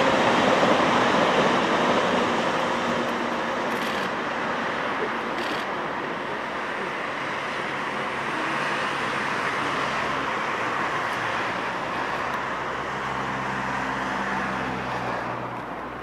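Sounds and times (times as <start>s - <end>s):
road traffic rushing: 0.0s - 16.0s.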